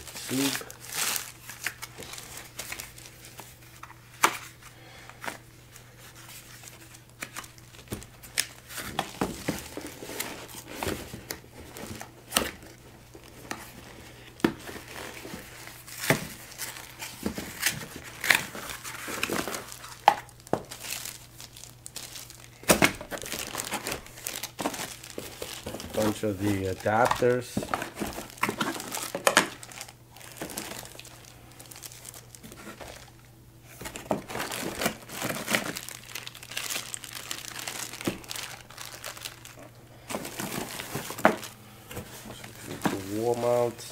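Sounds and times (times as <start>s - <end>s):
plastic packaging crinkling: 0.0s - 4.7s, 5.3s - 43.8s.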